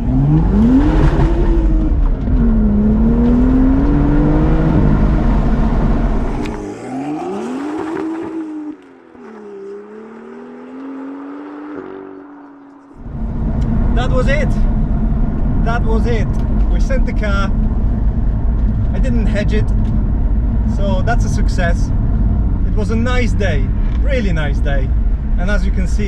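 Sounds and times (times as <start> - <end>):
sports car engine accelerating: 0.0 - 25.4.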